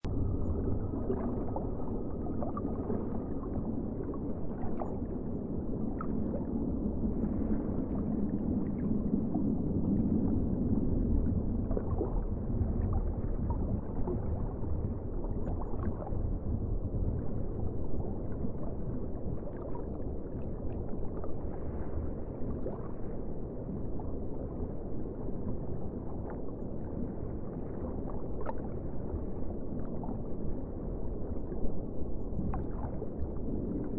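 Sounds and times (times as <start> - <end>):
muffled underwater rumble: 0.0 - 33.9.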